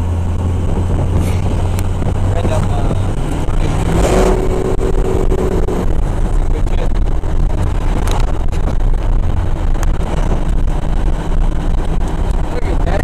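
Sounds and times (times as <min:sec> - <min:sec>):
diesel engine drone in cab: 0:00.0 - 0:13.0
road noise: 0:00.0 - 0:13.0.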